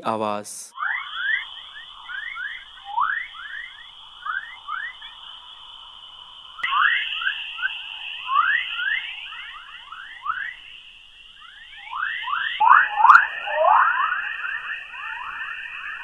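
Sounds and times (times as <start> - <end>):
steady hiss: 0.0 - 16.0
rising chirps: 0.7 - 16.0.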